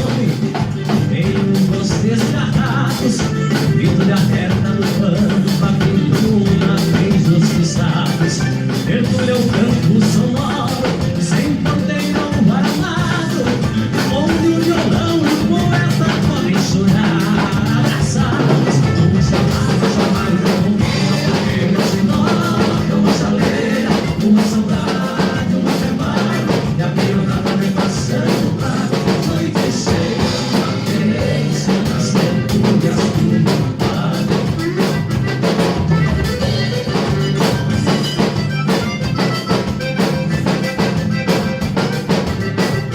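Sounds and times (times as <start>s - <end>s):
band playing music: 0.0s - 42.9s
drum kit beat: 0.0s - 42.9s.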